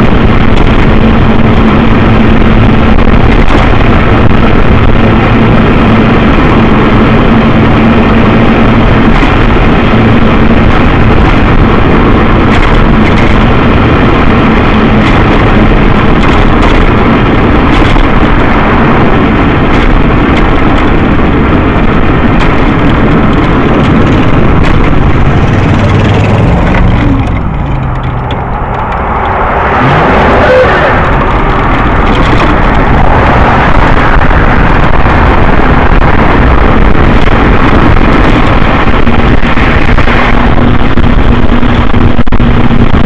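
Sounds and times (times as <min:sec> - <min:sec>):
scooter running noise with low hum: 0:00.0 - 0:43.0.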